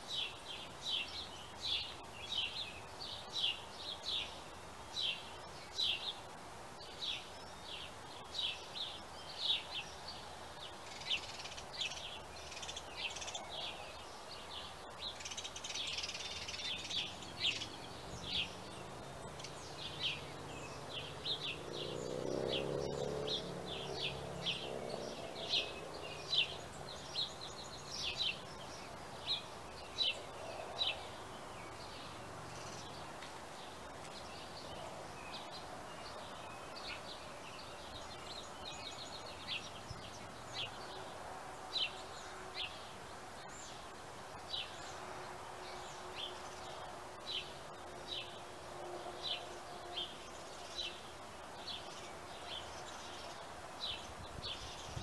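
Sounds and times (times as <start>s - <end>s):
birds chirping: 0.0s - 55.0s
faint background noise: 0.0s - 55.0s.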